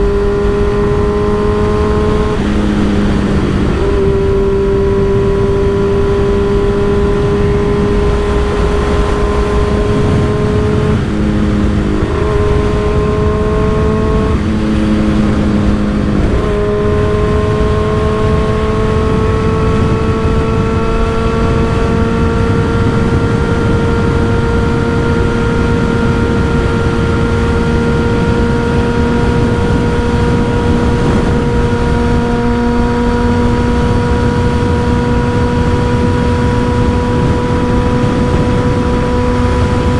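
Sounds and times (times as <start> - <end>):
motorcycle engine riding: 0.0 - 39.9
wind noise on microphone: 0.0 - 39.9.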